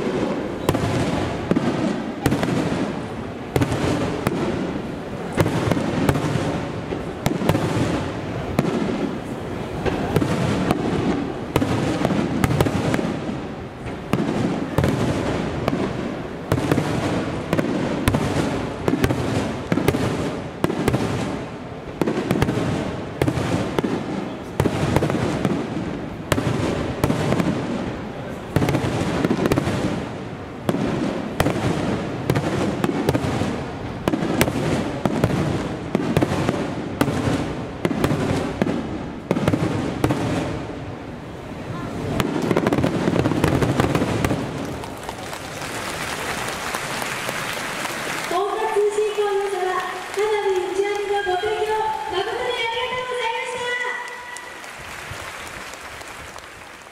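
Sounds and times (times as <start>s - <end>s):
fireworks cracking and popping: 0.0s - 40.7s, 41.9s - 56.9s
fireworks booming: 0.0s - 56.9s.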